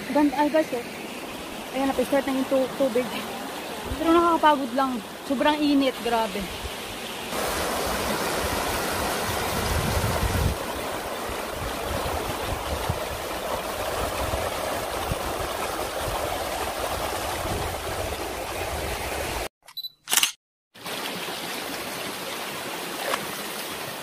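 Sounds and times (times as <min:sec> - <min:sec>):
stream splashing over stones: 0:00.0 - 0:19.5, 0:20.8 - 0:24.0.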